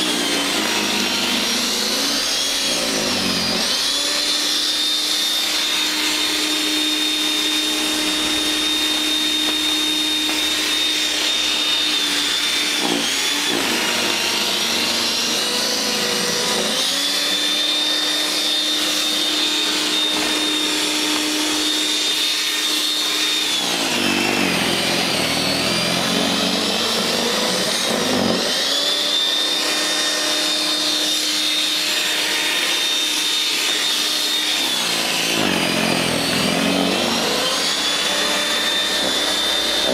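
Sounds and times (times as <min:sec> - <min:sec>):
snow thrower motor whine: 0:00.0 - 0:39.9.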